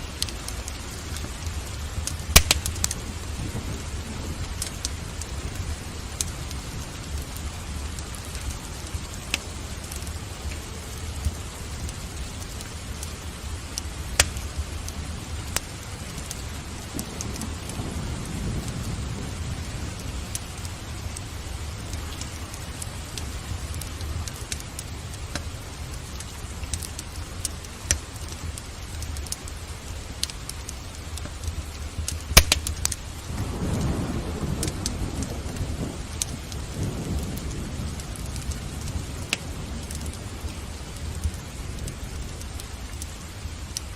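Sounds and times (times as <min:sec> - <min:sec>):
thunder rumbling: 0:00.0 - 0:26.6, 0:31.4 - 0:43.6
steady rain: 0:00.0 - 0:43.9
wood fire crackling: 0:00.0 - 0:43.9.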